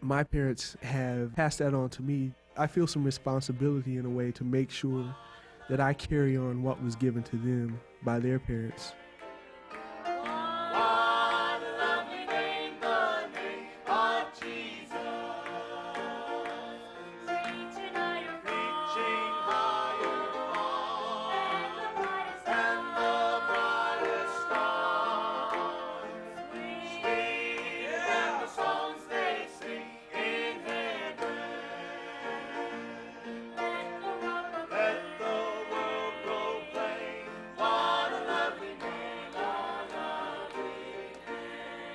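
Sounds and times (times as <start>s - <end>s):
group singing gospel in harmony: 0.8s - 41.9s.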